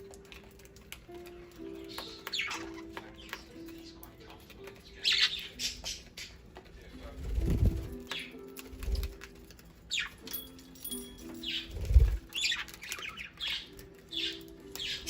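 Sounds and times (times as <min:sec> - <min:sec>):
budgerigars chirping and squawking: 0:00.0 - 0:06.6, 0:07.2 - 0:15.0
soft background music: 0:00.0 - 0:15.0.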